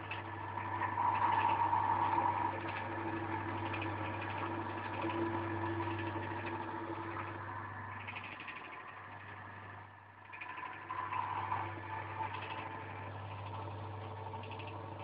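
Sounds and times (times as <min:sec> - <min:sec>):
electric motor hum with whine: 0:00.0 - 0:15.0.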